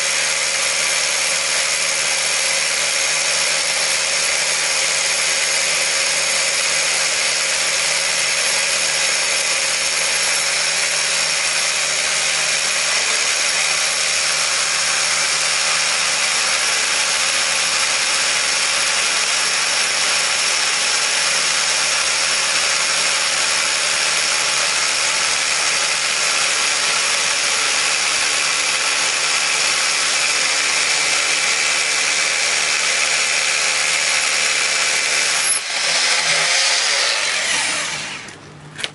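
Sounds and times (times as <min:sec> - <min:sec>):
rotary hammer drilling concrete: 0:00.0 - 0:38.9.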